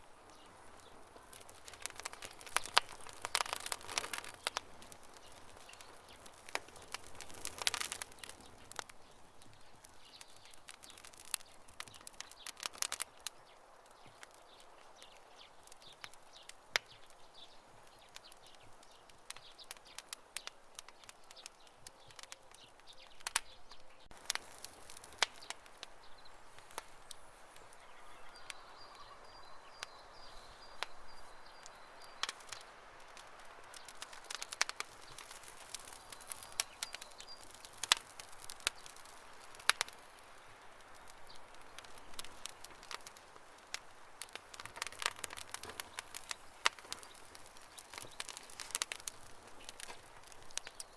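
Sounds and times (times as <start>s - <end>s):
campfire crackling: 0.0s - 50.9s
fire popping: 0.0s - 50.9s
soft fire hiss: 0.0s - 50.9s.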